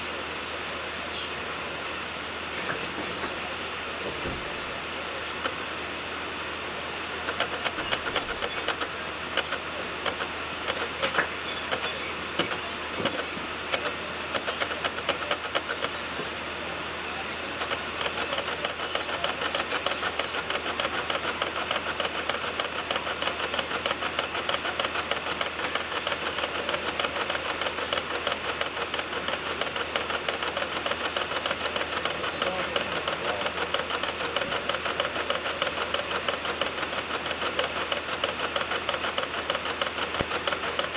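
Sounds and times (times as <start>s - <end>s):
hiss of spinning disc: 0.0s - 40.9s
dvd drive clicking: 2.5s - 5.7s, 7.1s - 16.4s, 17.4s - 40.9s.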